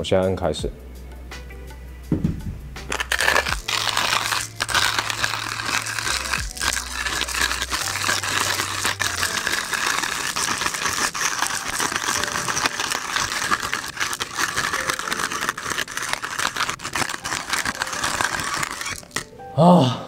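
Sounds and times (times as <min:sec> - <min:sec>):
hand grinder crushing coffee beans: 0:02.9 - 0:19.3.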